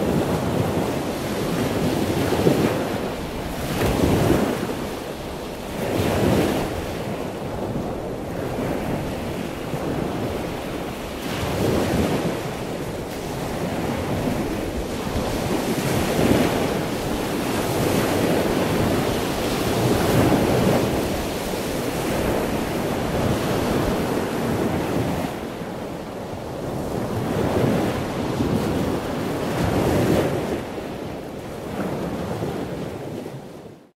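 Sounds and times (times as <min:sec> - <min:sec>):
waves breaking on sea wall: 0:00.0 - 0:33.0
wind buffeting microphone: 0:00.0 - 0:33.8.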